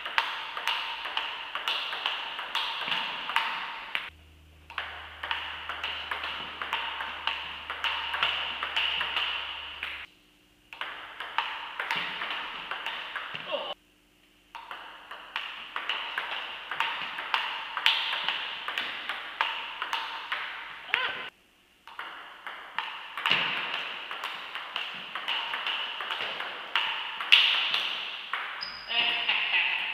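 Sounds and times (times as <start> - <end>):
table tennis ball clicking: 0.0 - 4.1, 4.7 - 10.1, 10.7 - 13.5, 14.5 - 20.7, 21.8 - 28.7.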